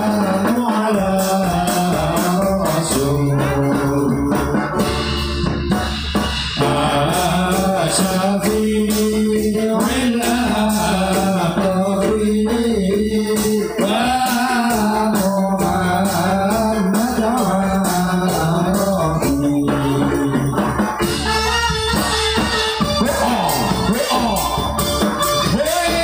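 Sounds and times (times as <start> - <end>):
jingling tambourine: 0.0 - 26.0
steady drumming: 0.0 - 26.0.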